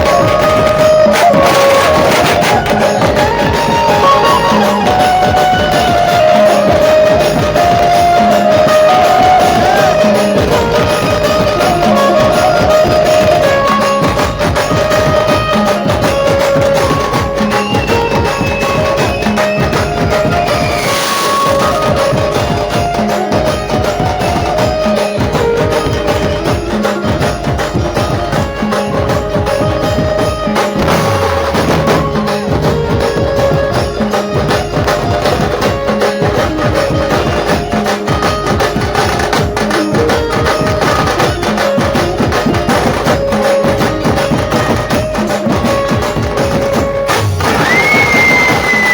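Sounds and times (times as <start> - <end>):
band playing amplified music: 0.0 - 48.9
heavy drumming: 0.0 - 48.9.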